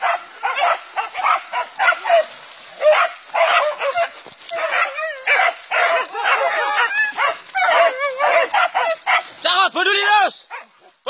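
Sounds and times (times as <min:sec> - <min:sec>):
dogs barking and yelping: 0:00.0 - 0:09.4, 0:10.5 - 0:11.0.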